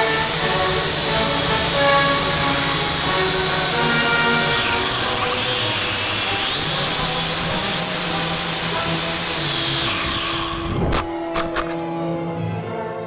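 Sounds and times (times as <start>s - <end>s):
drone propellers whining: 0.0s - 11.8s.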